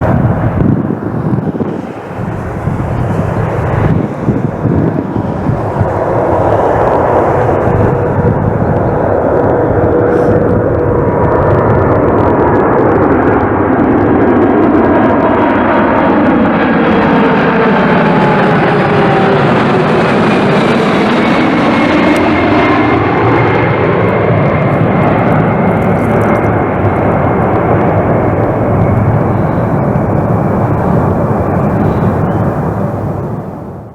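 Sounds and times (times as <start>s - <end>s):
jet engines of landing plane: 0.0s - 33.9s.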